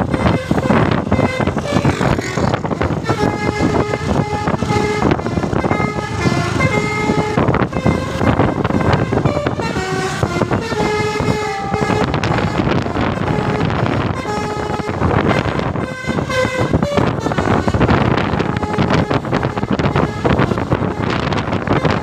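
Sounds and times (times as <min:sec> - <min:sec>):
multi-tone bus horn melody: 0:00.0 - 0:22.0
vehicle noise: 0:00.0 - 0:22.0.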